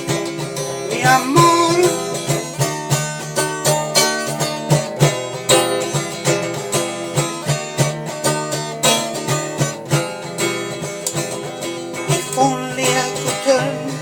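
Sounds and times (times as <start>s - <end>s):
guitar picking a melody: 0.0s - 14.0s.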